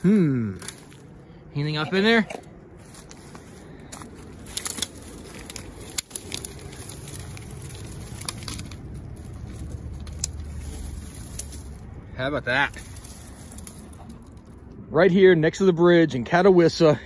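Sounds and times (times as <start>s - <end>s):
dry stalks and plastic crackling: 0.0s - 15.4s
low steady rumble: 0.0s - 17.0s.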